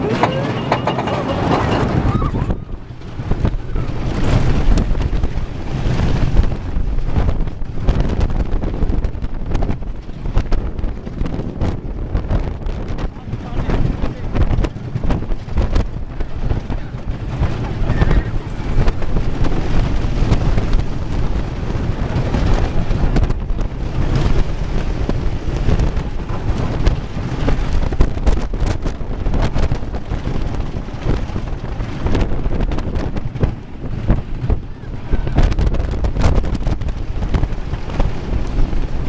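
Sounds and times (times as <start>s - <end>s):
roller coaster train rattling: 0.0s - 39.0s
wind blasting microphone: 0.0s - 39.0s.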